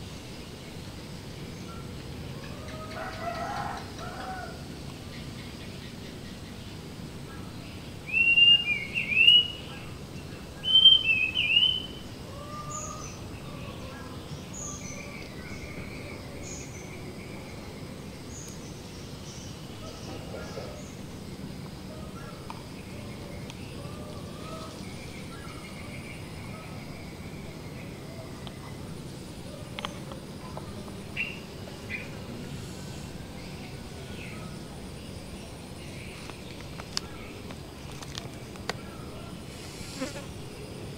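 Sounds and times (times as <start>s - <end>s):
steady background hiss: 0.0s - 40.9s
birds calling: 1.4s - 40.0s.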